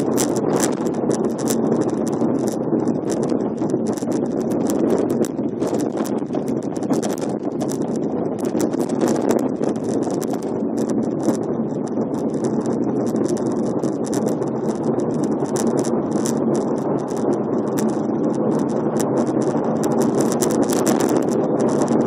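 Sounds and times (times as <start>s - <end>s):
rapid irregular clicking: 0.0s - 22.0s.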